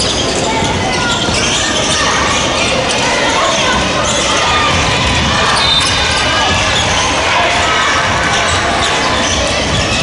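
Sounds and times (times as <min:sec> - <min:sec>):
players' voices in echoing hall: 0:00.0 - 0:10.0
sneakers squeaking: 0:00.0 - 0:10.0.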